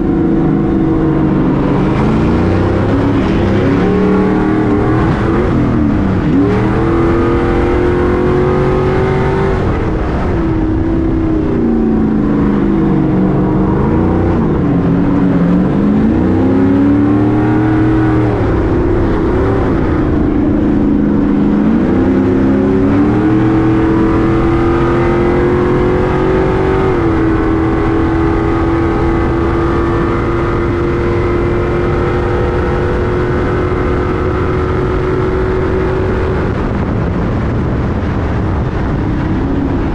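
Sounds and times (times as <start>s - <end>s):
racing truck engine revving: 0.0s - 39.9s.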